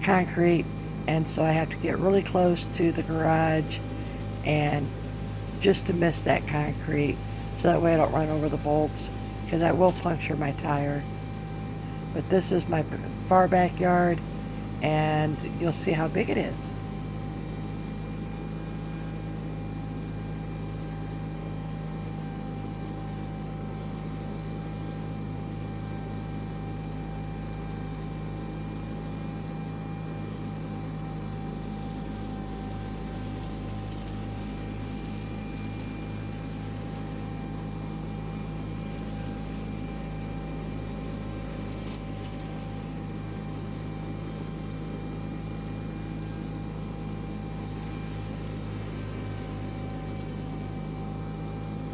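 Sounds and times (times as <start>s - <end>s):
garden tractor engine running: 0.0s - 51.9s
mower deck mulching leaves: 0.0s - 51.9s.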